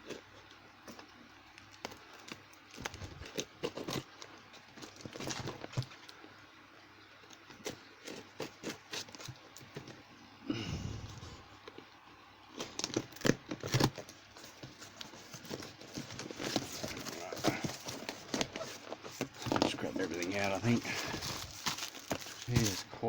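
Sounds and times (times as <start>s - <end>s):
cardboard parcel being opened: 0.0s - 23.0s.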